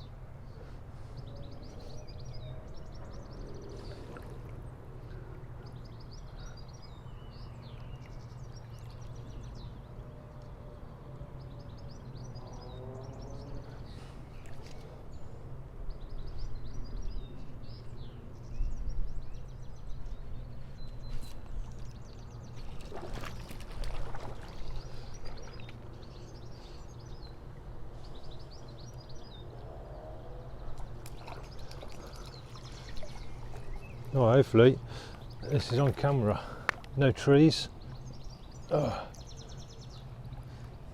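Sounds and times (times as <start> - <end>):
small birds singing: 0.0 - 40.9.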